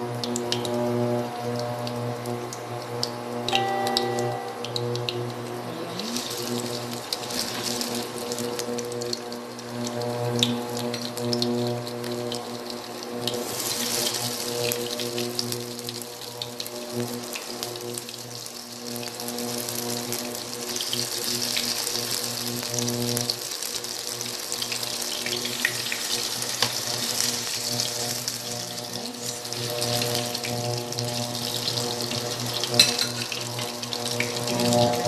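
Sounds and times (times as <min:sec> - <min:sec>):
beef sizzling in a wok: 0:00.0 - 0:03.9, 0:06.0 - 0:35.0.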